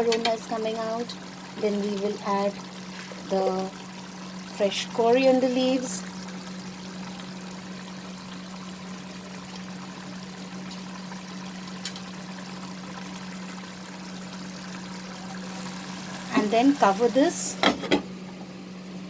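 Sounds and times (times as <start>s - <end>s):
curry hissing in pan: 0.0s - 17.6s
low steady hum: 0.0s - 19.0s.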